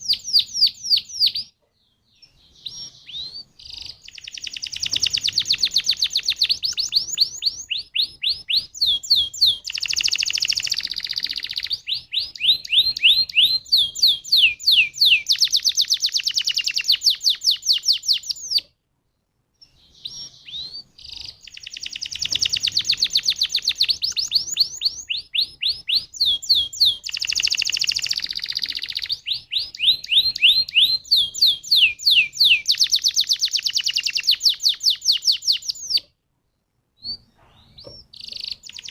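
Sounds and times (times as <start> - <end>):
canary singing trilled song: 0.0 - 18.8, 19.6 - 36.2, 37.0 - 38.9.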